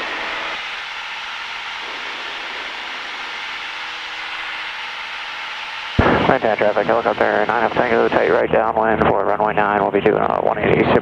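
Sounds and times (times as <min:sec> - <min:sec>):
airplane engine and propeller droning: 0:00.0 - 0:11.0.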